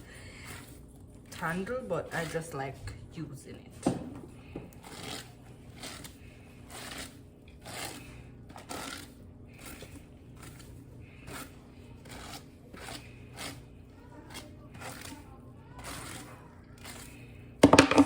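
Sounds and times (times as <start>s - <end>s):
brush scraping through wet hair: 0.0s - 2.7s, 4.4s - 17.3s.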